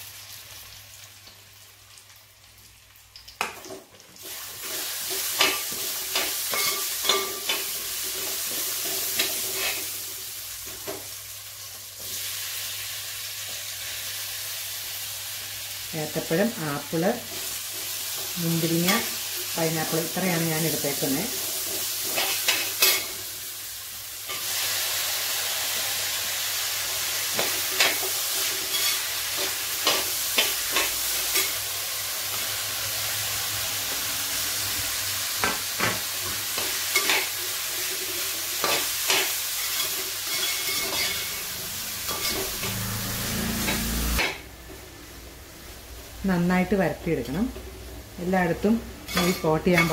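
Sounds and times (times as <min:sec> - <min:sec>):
fruit sizzling in hot fat: 0:00.0 - 0:49.9.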